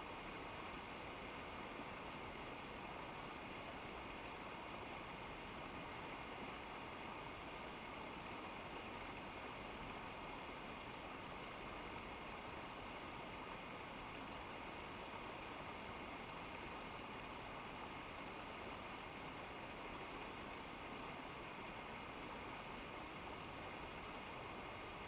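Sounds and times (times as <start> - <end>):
mountain river rushing: 0.0 - 25.0.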